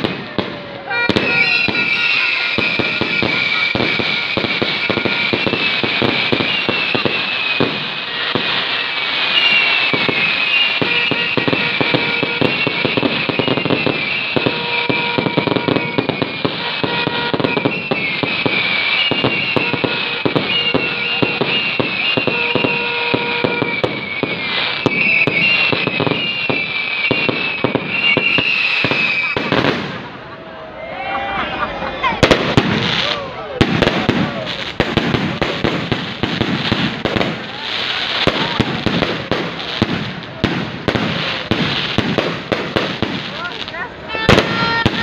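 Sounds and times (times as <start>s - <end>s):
fireworks bursting and crackling: 0.0s - 30.8s, 31.7s - 45.0s.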